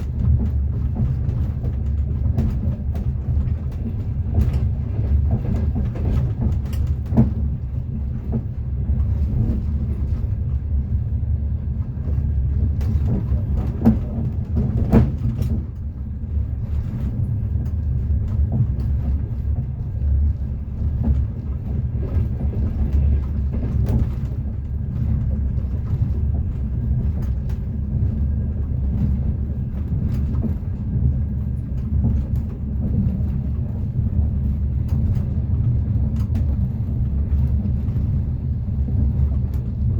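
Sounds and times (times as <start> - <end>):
train running gear rumble: 0.0 - 39.9.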